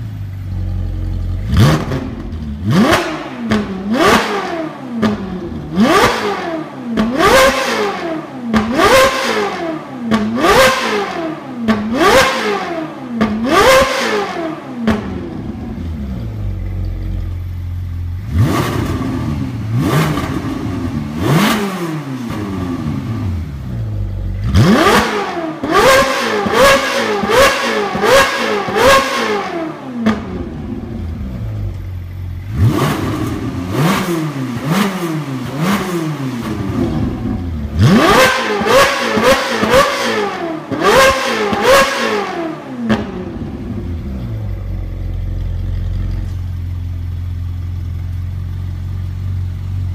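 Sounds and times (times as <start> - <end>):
car engine idling: 0.0 - 7.5, 13.1 - 41.9, 42.8 - 49.9
sports car engine revving: 0.0 - 49.9.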